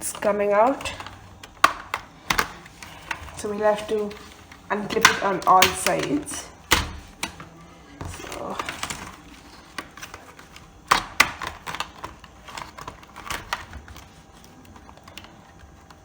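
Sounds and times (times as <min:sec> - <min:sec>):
soft handling noise: 0:00.0 - 0:16.0
plastic laptop case clicking: 0:00.2 - 0:16.0.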